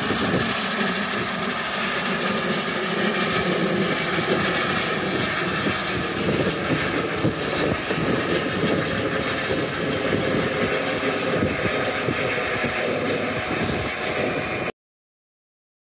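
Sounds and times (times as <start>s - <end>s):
helicopter rotor and engines: 0.0s - 14.8s.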